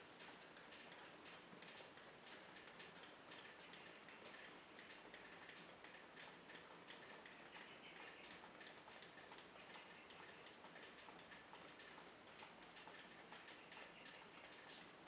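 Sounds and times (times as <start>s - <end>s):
raindrops ticking: 0.2s - 14.8s.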